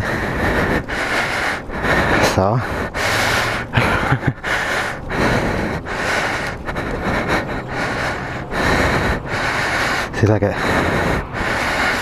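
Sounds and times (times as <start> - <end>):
man breathing heavily: 0.0 - 12.0.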